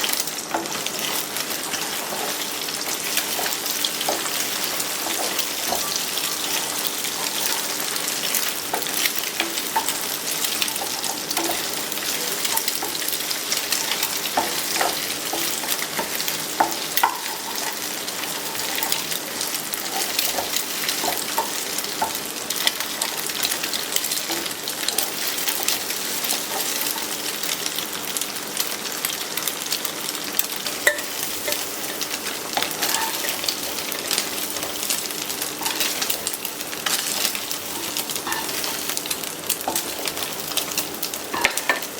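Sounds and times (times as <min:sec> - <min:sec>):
food sizzling in hot oil: 0:00.0 - 0:41.9.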